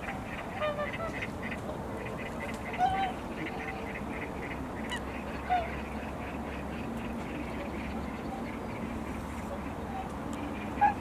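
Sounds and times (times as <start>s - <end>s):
flock of swans calling softly: 0.0s - 11.0s
swan honking calls: 0.0s - 11.0s.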